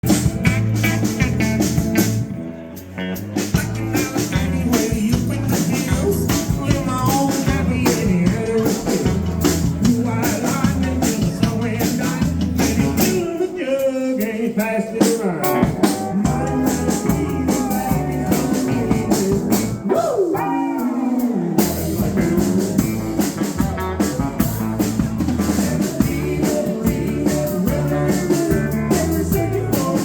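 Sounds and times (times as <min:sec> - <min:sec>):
live rock band playing: 0:00.0 - 0:30.0
person singing: 0:03.3 - 0:30.0.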